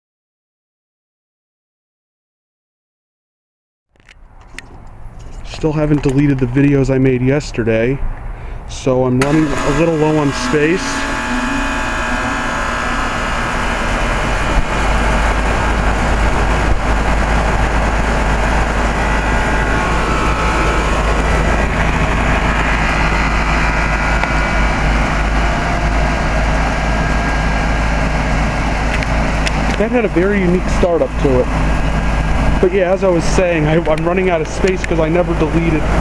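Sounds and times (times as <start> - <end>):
heat pump compressor and fan: 4.0 - 36.0
heavy low hum: 4.8 - 36.0.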